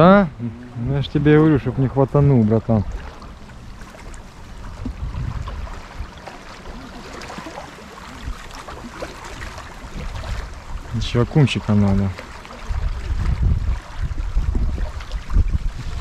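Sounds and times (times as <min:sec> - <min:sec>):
water lapping: 0:00.0 - 0:16.0
wind buffeting microphone: 0:00.0 - 0:16.0.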